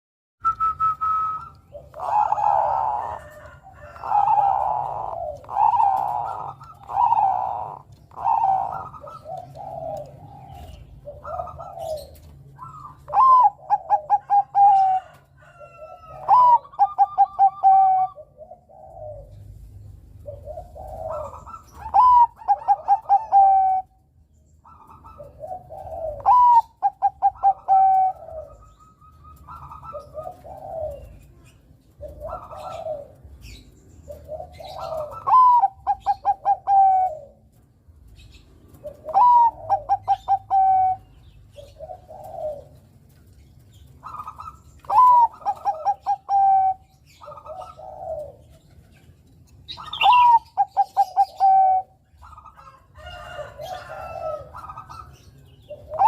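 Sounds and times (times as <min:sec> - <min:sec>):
dove cooing: 0:00.6 - 0:56.0.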